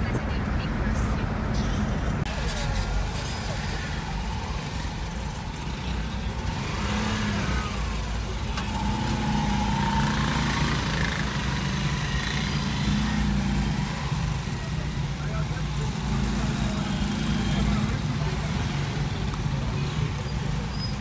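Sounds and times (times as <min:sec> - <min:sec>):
car engine rumble: 0:00.0 - 0:21.0
road noise hiss: 0:00.0 - 0:21.0.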